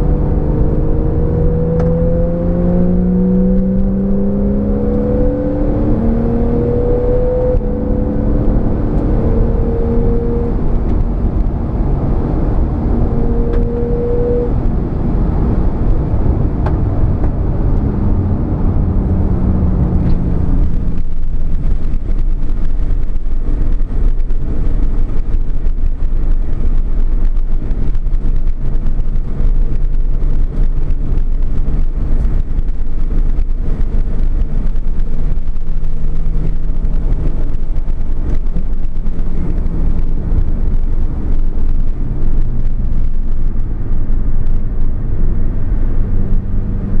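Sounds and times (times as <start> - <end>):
road and wind noise rumble: 0.0 - 47.0
sports car engine running: 0.0 - 47.0.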